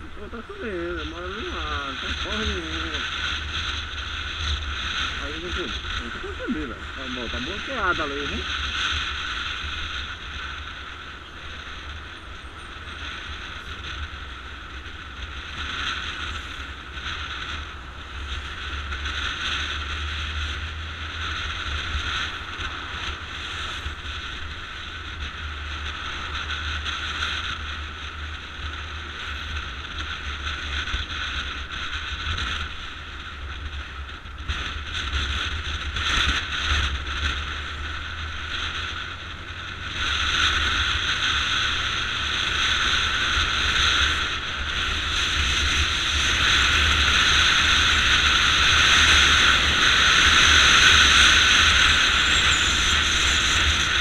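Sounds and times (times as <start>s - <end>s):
motorcycle engine: 0.0s - 54.0s
road noise: 0.0s - 54.0s
wind rumbling on microphone: 0.0s - 54.0s.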